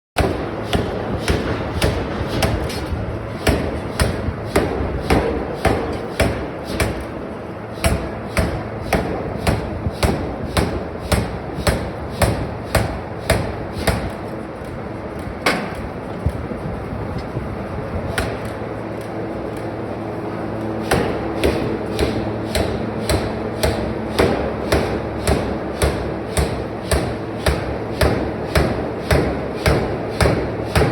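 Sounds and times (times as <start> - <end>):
steady machine noise: 0.2 - 30.9.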